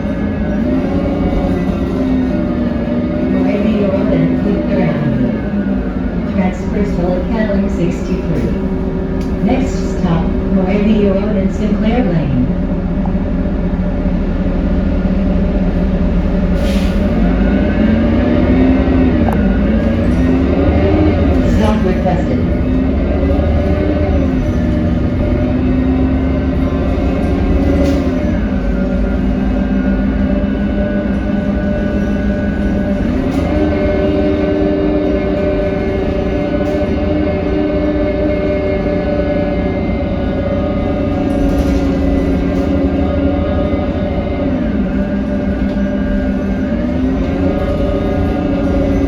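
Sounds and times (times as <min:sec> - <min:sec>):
bus diesel engine droning: 0:00.0 - 0:49.0.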